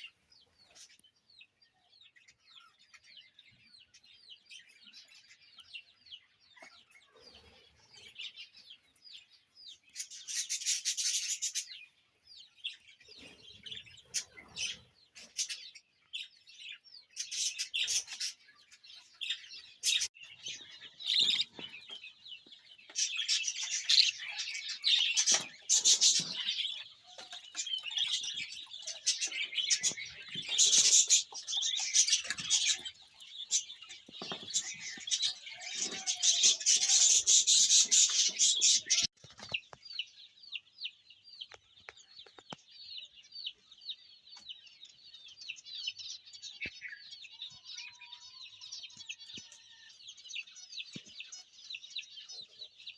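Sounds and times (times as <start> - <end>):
birds chirping and chattering: 0.0 - 52.9.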